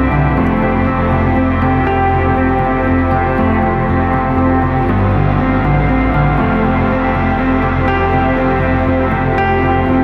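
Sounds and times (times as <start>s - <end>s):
ambient music with bass line: 0.0s - 10.0s.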